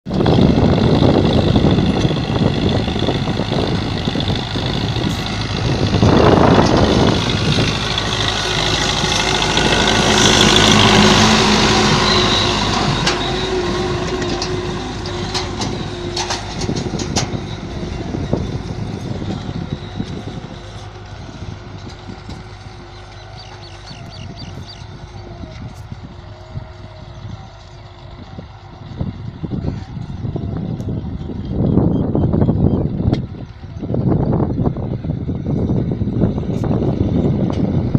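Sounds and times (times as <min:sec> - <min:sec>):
tractor diesel engine under load: 0:00.0 - 0:37.9.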